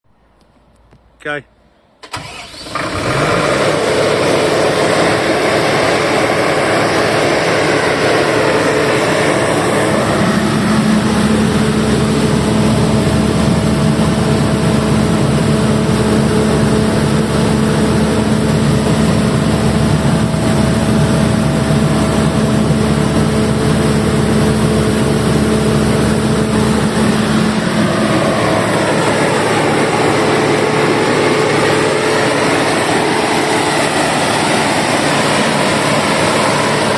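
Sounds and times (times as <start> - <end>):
diesel generator engine running: 2.0 - 36.9.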